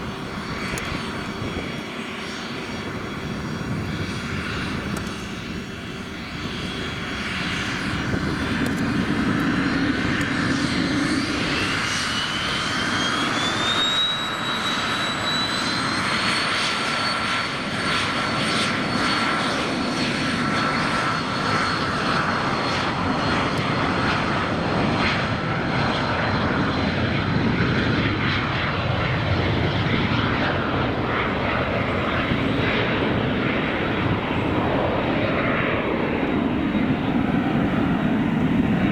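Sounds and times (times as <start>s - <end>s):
jet engines spooling up: 0.0s - 38.9s.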